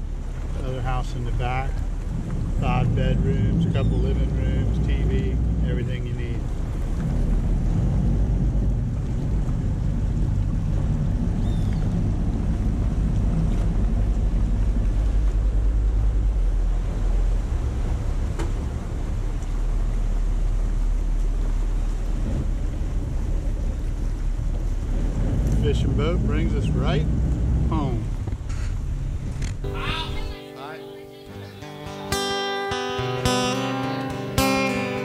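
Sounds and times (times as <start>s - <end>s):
wind on microphone: 0.0s - 30.4s
boat engine running: 0.0s - 35.0s
water rushing along hull: 0.0s - 35.0s.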